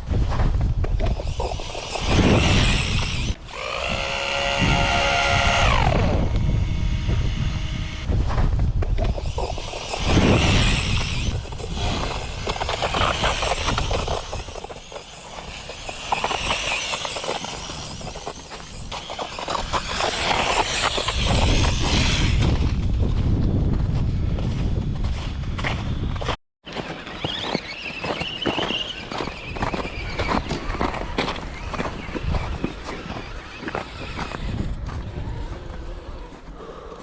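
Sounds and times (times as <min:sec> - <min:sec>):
rc car crackling running noise: 0:00.2 - 0:08.1, 0:08.8 - 0:23.0, 0:26.7 - 0:36.3.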